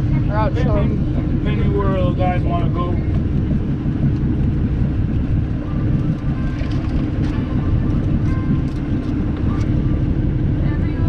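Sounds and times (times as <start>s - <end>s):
boat engines rumbling: 0.0s - 11.0s.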